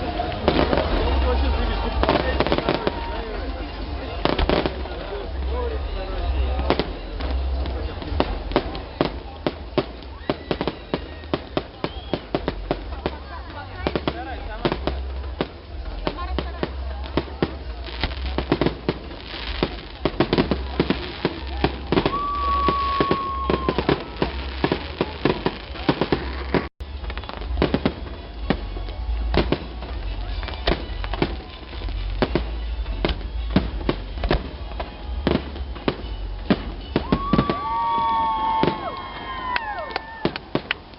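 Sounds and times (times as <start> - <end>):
firework bangs and crackles: 0.0 - 40.9.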